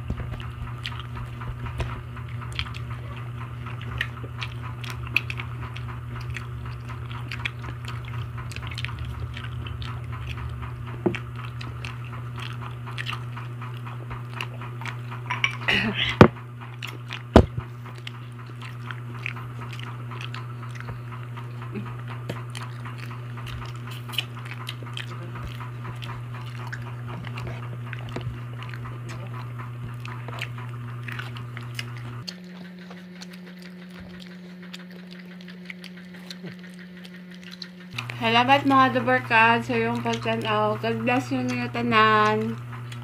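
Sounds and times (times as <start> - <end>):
people chewing with wet smacks: 0.0 - 43.0
steady low hum: 0.0 - 43.0.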